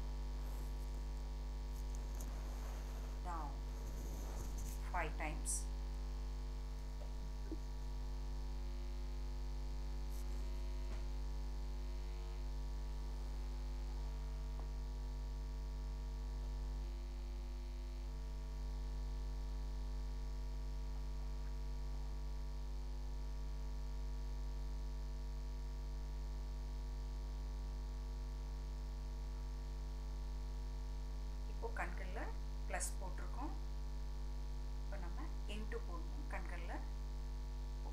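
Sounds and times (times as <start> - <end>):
electrical mains hum: 0.0 - 37.9.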